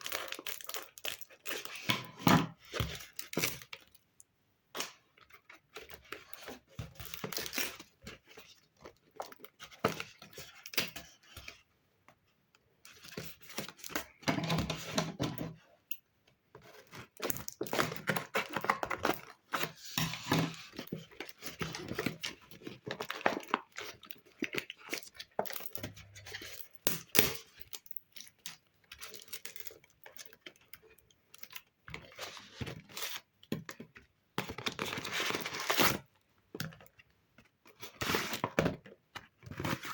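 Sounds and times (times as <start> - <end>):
paper crinkling and rustling: 0.0 - 3.9, 4.8 - 11.6, 16.6 - 39.9.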